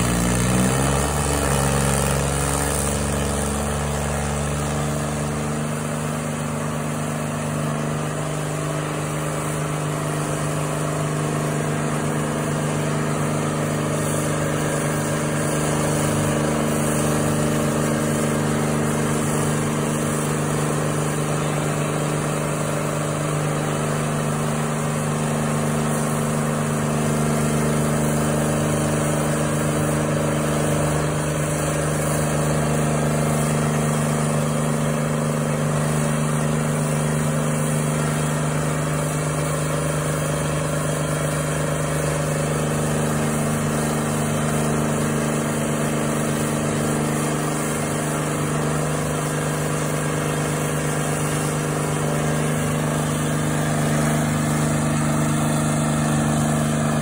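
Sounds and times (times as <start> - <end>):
cutter wheel grinding stump: 0.0 - 57.0
stump grinder engine droning: 0.0 - 57.0.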